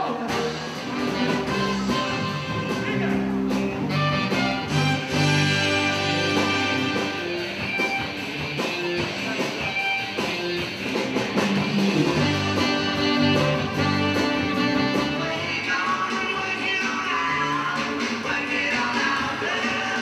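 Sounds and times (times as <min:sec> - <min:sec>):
guitar music with drum beat: 0:00.0 - 0:20.0.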